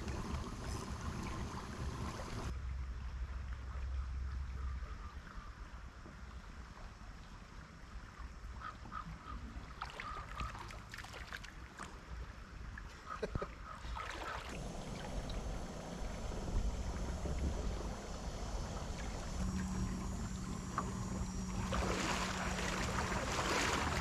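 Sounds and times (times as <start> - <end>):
water and wind rumble: 0.0 - 24.0.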